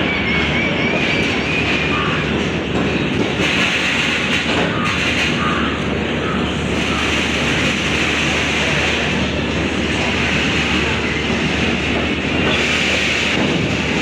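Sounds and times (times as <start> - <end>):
train wheels rumbling and rattling: 0.0 - 14.0.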